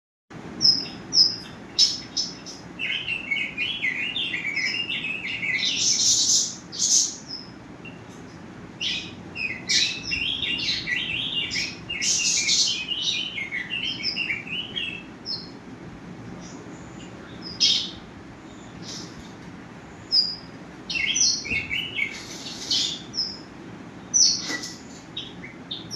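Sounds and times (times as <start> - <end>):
small birds chirping: 0.4 - 25.9.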